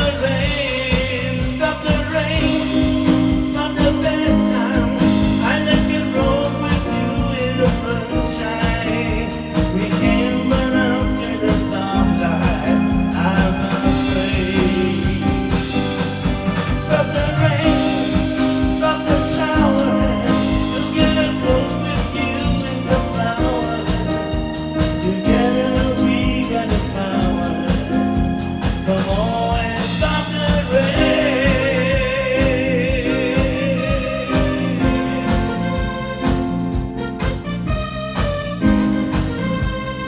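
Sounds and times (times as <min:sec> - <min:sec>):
person singing with vibrato: 0:00.0 - 0:36.6
backing band with steady beat: 0:00.0 - 0:40.0.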